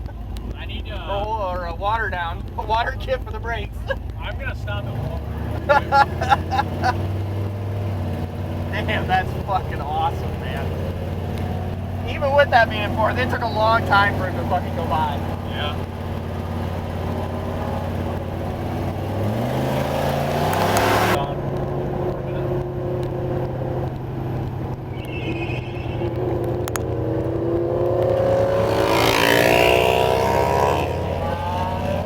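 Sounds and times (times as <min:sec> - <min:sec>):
vehicle engine accelerating: 0:00.0 - 0:32.0.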